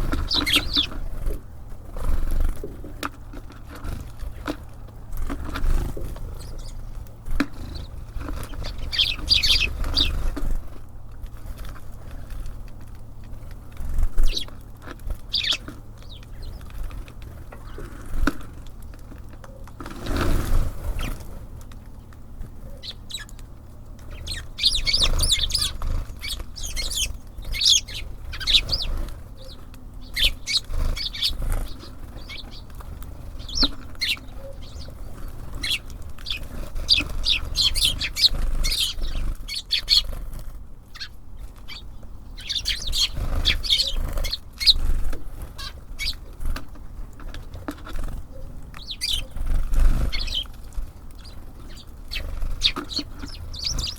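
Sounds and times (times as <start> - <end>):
songbirds chirping: 0.0 - 53.9
steady low hum: 0.0 - 53.9
wings flapping: 0.0 - 53.9.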